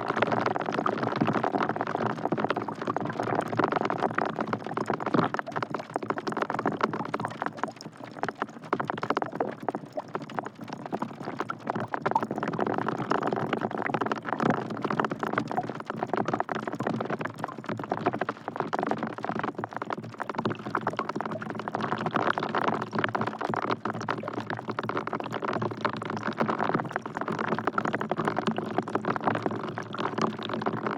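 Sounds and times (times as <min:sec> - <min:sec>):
rain splashing into bucket of water: 0:00.0 - 0:30.9.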